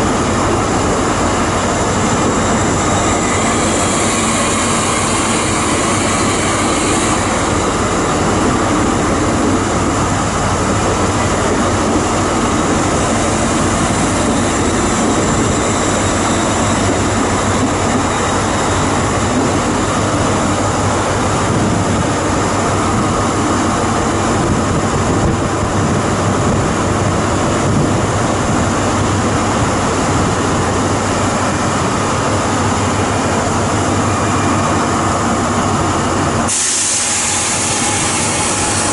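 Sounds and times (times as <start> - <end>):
train running: 0.0 - 38.9.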